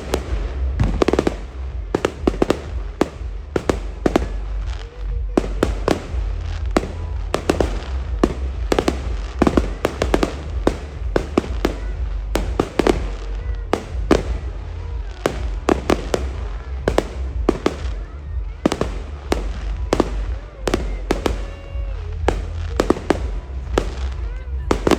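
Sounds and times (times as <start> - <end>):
fireworks bangs and pops: 0.0 - 24.9
low rumble: 0.0 - 24.9.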